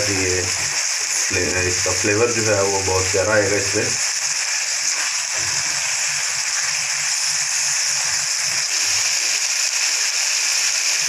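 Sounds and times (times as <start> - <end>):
chicken sizzling on a griddle: 0.0 - 11.0.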